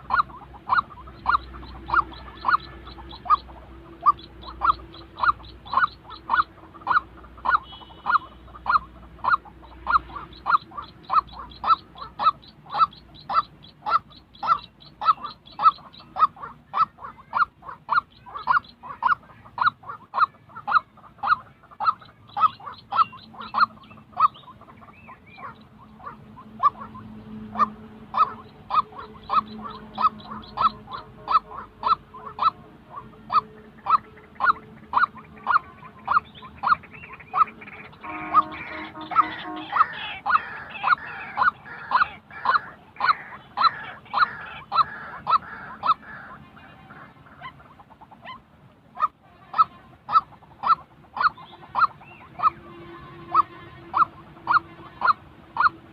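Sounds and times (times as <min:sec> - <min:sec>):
bird honking calls: 0:00.0 - 0:55.9.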